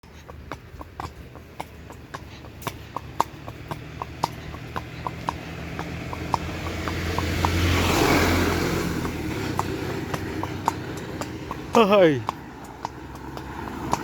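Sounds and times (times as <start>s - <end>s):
horse hooves clip-clopping: 0.0s - 14.0s
car passing by: 2.4s - 14.0s.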